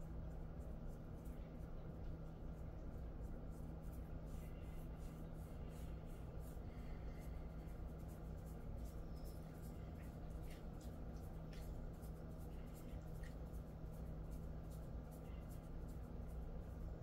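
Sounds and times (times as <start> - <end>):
steady low hum: 0.0 - 17.0
hands scratching dog fur: 0.6 - 17.0.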